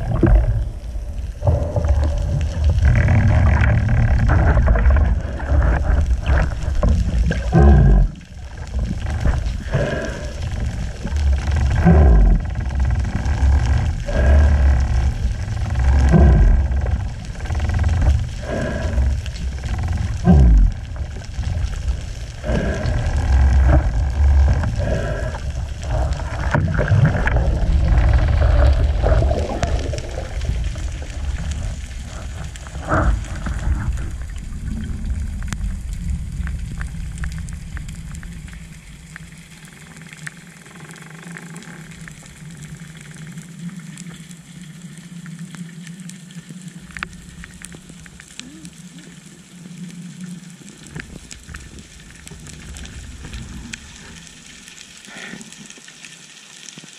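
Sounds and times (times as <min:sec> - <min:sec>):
faint crackling ticks: 0:00.0 - 0:56.9
low underwater hum: 0:00.0 - 0:56.9
underwater rumbling of moving water: 0:00.0 - 0:56.9.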